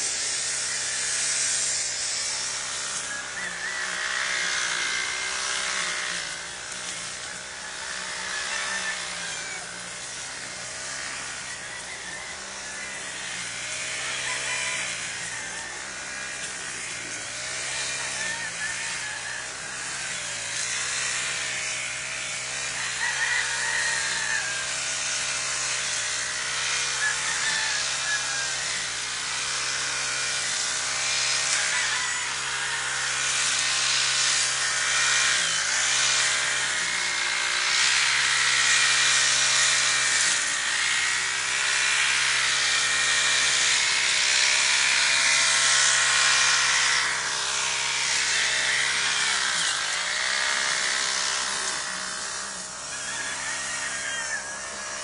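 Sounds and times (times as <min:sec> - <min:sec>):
small motor running: 0:00.0 - 0:55.0.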